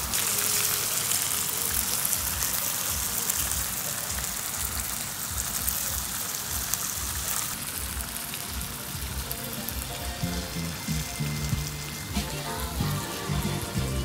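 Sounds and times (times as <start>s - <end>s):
food sizzling on hot platter: 0.0s - 14.0s
background music with beat: 1.8s - 14.0s.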